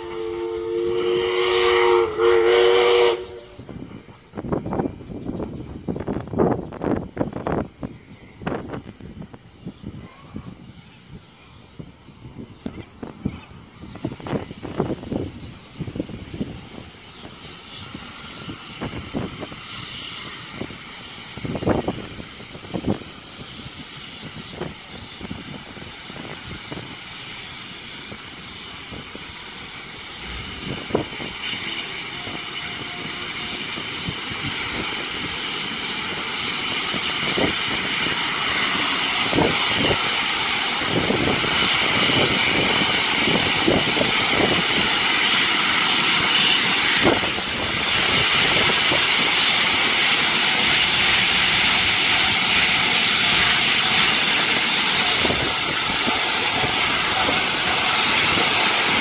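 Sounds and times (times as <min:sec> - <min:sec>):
steam locomotive hissing and running: 0:00.0 - 0:59.0.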